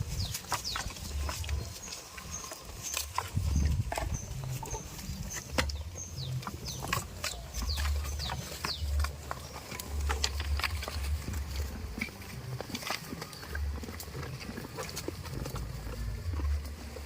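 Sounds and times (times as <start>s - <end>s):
low rumbling: 0.0s - 17.0s.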